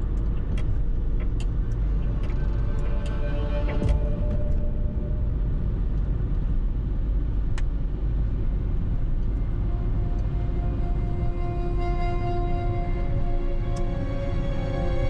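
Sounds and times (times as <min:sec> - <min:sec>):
soft music with held tones: 0:00.0 - 0:06.9, 0:07.5 - 0:15.0.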